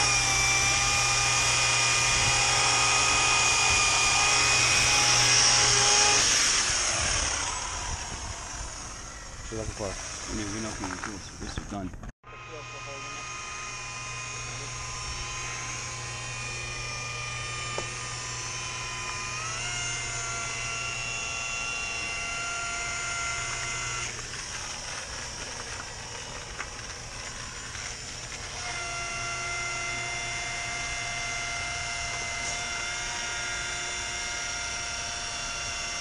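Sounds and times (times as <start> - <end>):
electric glass polisher whining: 0.0 - 11.5, 12.2 - 36.0.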